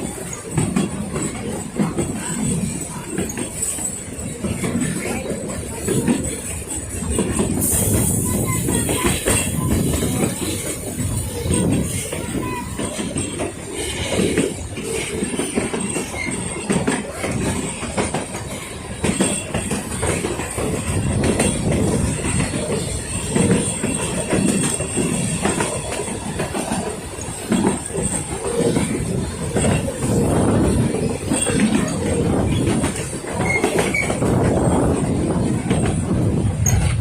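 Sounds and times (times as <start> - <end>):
train carriages rattling on track: 0.0 - 37.0.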